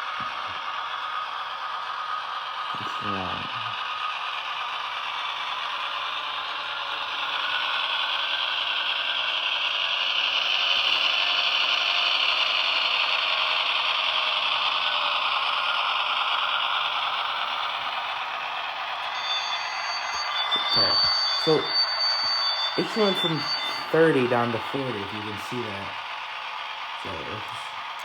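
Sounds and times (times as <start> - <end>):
model train rattling along track: 0.0 - 28.0.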